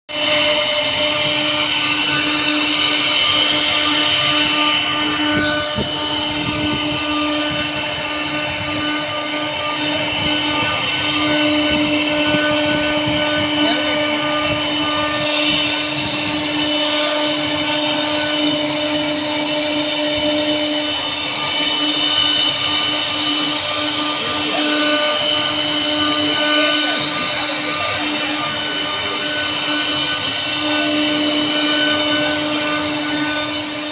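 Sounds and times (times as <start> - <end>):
electric wood planer running: 0.1 - 33.9.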